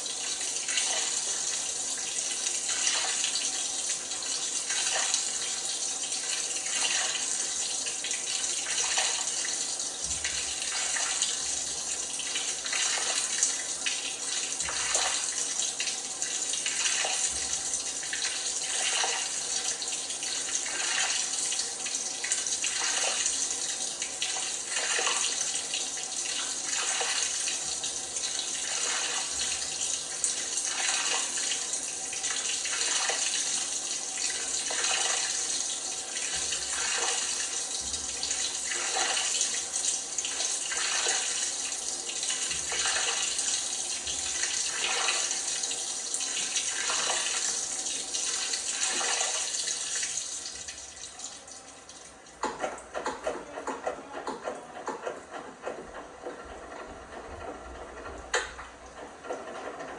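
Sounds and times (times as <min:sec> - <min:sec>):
washing machine water sloshing: 0:00.0 - 0:59.9.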